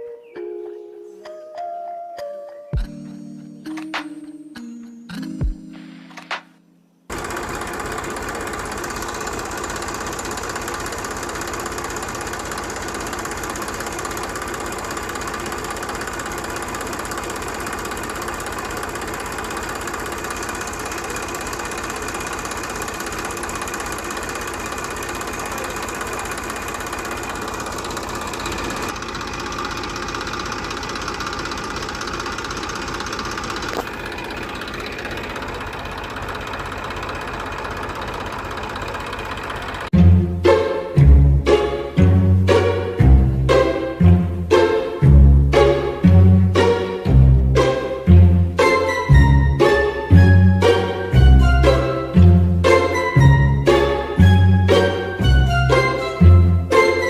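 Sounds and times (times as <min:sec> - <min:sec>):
engine knocking rhythmically: 0:07.1 - 0:57.0.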